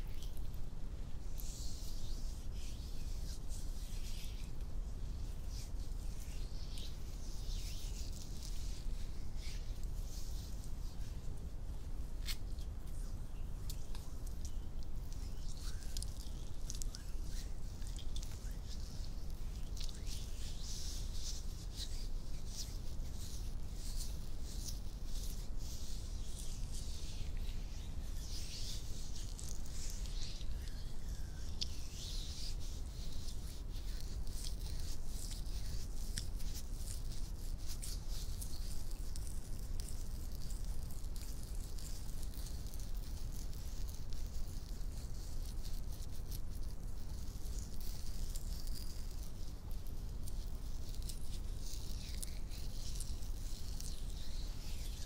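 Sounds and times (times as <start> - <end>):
hands rubbing together: 1.3 - 55.0.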